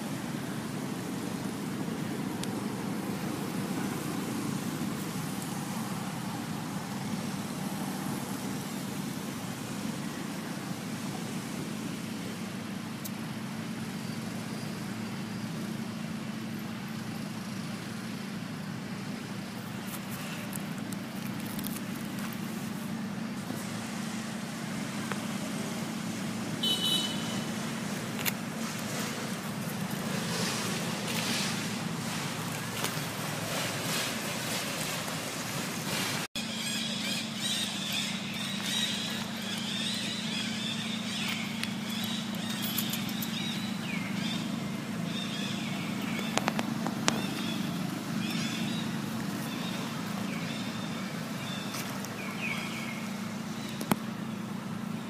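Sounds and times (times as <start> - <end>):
outdoor background noise: 0.0 - 55.0.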